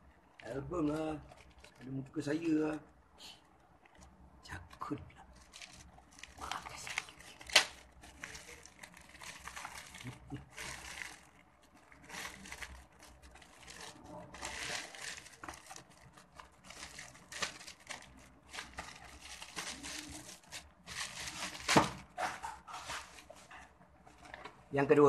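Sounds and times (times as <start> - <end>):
plastic wrapping crinkling: 0.0 - 24.8.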